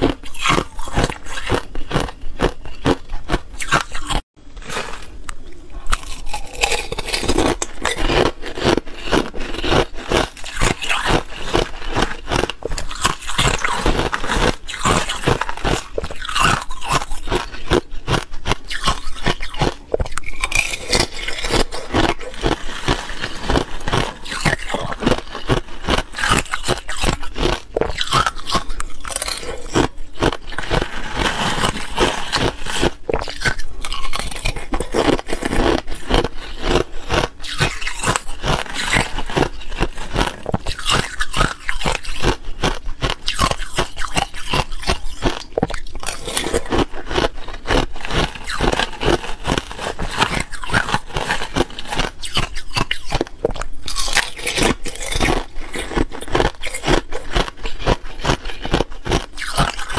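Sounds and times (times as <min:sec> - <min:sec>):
ice crunching in mouth: 0:00.0 - 0:59.9
metal spoon scraping ice: 0:06.0 - 0:59.9.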